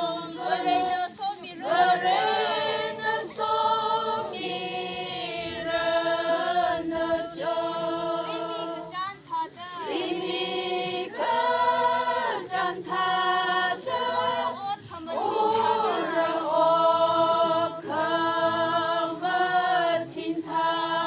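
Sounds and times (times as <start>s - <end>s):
group singing unaccompanied: 0.0s - 21.0s.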